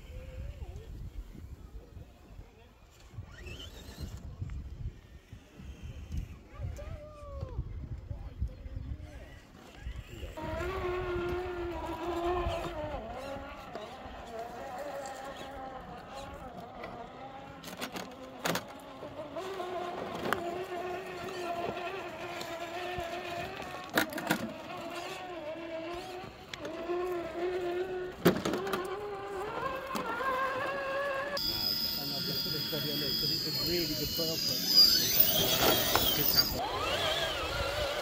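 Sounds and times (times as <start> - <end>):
electric motor and gears whining: 2.9 - 6.5, 9.1 - 38.0.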